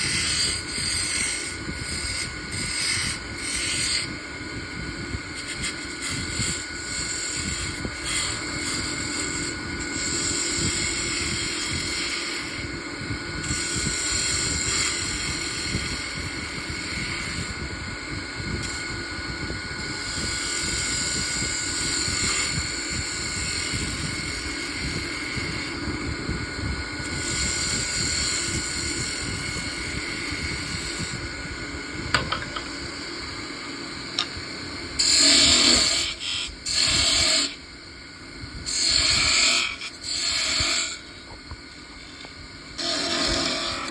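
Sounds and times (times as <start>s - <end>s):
tool hissing cutting wood: 0.0s - 17.6s, 19.8s - 25.8s, 27.0s - 33.2s, 33.9s - 43.9s
wood lathe running: 0.0s - 17.6s, 19.8s - 25.8s, 27.0s - 31.2s, 32.1s - 32.9s, 35.0s - 37.6s, 38.7s - 43.9s.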